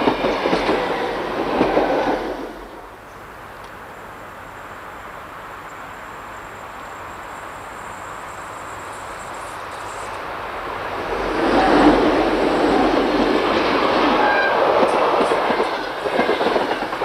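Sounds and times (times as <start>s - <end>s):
train rumbling on rails: 0.0s - 3.6s, 5.1s - 17.0s.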